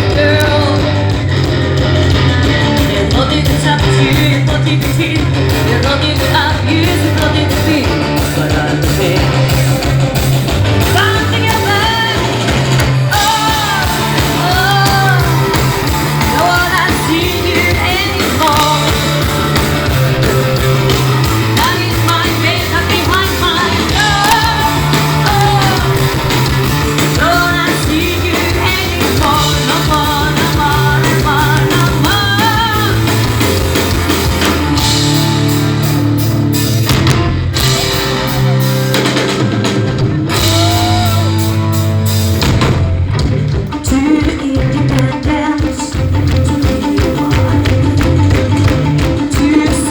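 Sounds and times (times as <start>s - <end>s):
person singing: 0.0s - 10.1s, 10.7s - 33.6s, 40.3s - 41.6s, 43.7s - 49.9s
rock band playing live: 0.0s - 49.9s.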